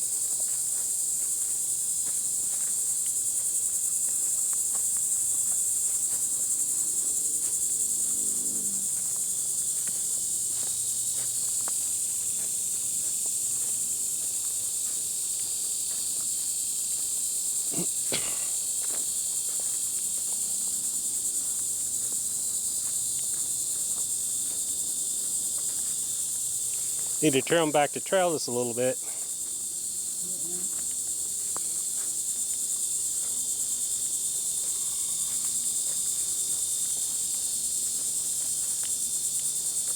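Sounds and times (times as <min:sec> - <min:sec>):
footsteps on trail: 0:00.0 - 0:39.9
insects chorus: 0:00.0 - 0:39.9.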